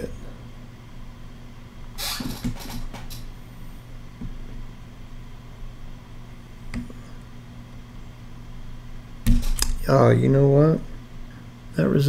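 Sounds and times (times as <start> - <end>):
faint room hiss: 0.0 - 12.0
low electrical hum: 0.0 - 12.0.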